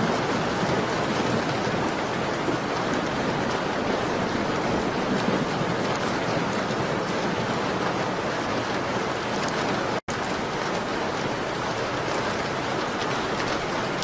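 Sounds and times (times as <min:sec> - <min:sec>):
rain on a window: 0:00.0 - 0:14.0.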